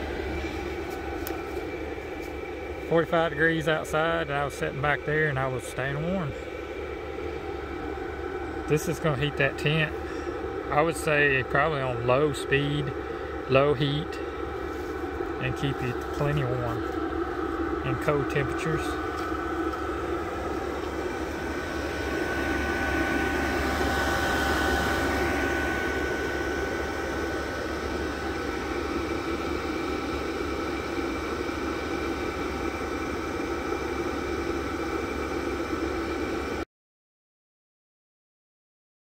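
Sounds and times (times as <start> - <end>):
heater fan hum and whine: 0.0 - 36.6.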